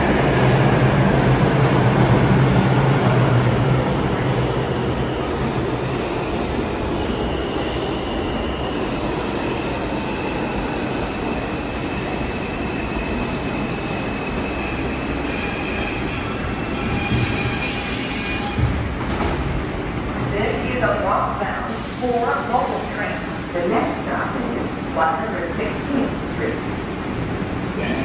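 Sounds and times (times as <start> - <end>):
subway train rumbling: 0.0 - 28.0.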